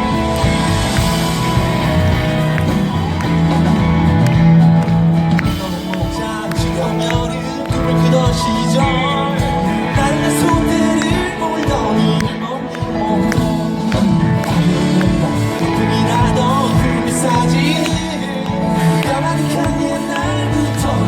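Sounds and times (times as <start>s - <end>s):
live pop-rock band playing: 0.0s - 21.0s.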